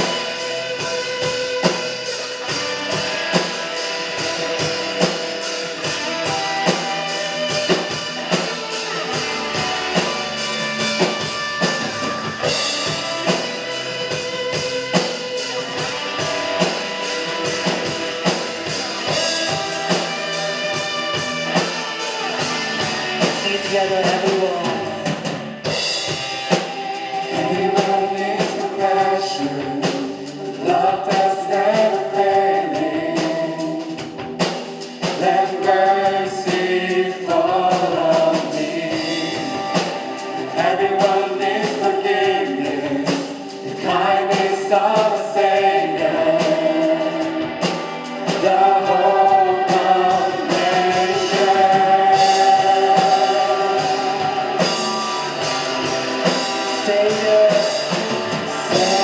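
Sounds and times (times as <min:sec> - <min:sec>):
band accompaniment: 0:00.0 - 0:59.0
group singing worship song: 0:00.0 - 0:59.0
steady drum beat: 0:00.0 - 0:59.0.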